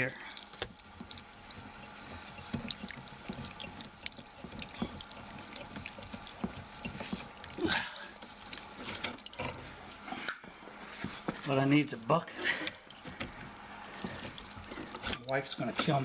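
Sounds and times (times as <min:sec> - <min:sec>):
water dripping: 0:00.0 - 0:16.0
water spraying and splattering: 0:00.0 - 0:16.0.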